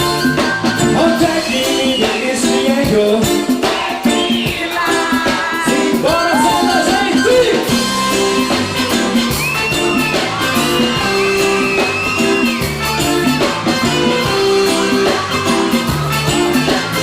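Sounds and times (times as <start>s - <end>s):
bass line: 0.0s - 17.0s
drums: 0.0s - 17.0s
guitar: 0.0s - 17.0s.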